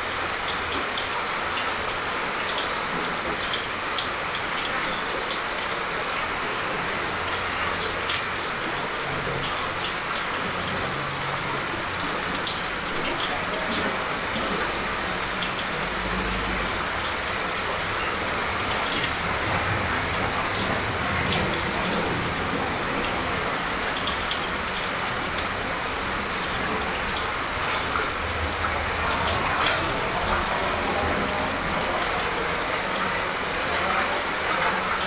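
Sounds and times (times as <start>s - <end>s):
light rain falling: 0.0s - 35.0s
raindrops ticking on surfaces: 0.0s - 35.0s.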